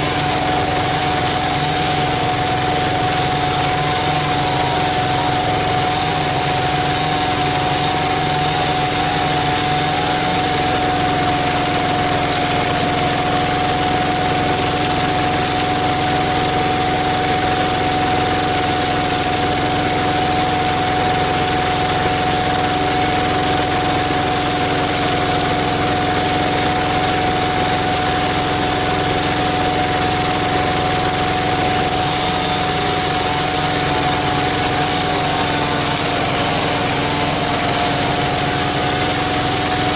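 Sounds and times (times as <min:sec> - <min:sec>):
steady whine: 0:00.0 - 0:39.9
tiller engine running: 0:00.0 - 0:39.9.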